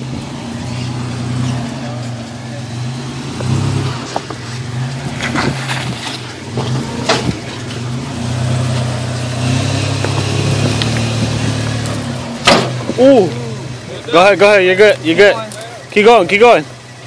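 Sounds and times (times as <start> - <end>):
engine running at low throttle: 0.0 - 17.0.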